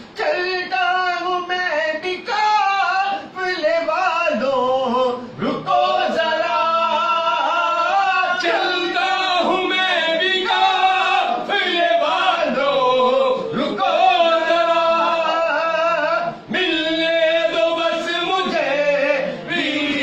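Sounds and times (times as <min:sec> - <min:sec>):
man singing devotional poem: 0:00.1 - 0:20.0.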